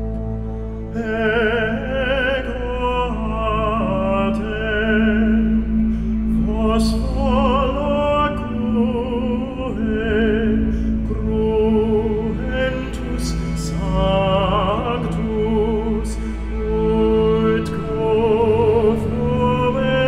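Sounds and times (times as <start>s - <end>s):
low drone: 0.0s - 20.0s
operatic melody with vibrato: 0.0s - 20.0s.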